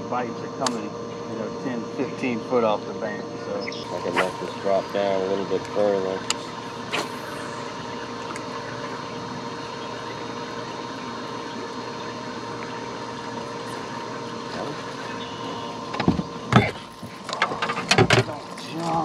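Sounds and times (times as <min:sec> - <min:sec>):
electric motor humming: 0:00.0 - 0:19.0.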